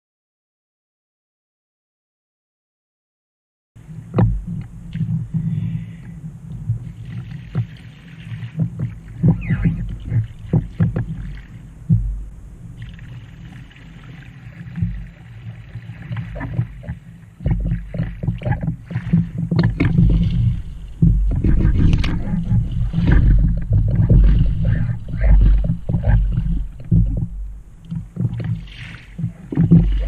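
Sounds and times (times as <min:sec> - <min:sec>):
low rumble: 0:03.8 - 0:30.0
paddle slapping water: 0:03.8 - 0:30.0
water sloshing around hull: 0:03.8 - 0:30.0.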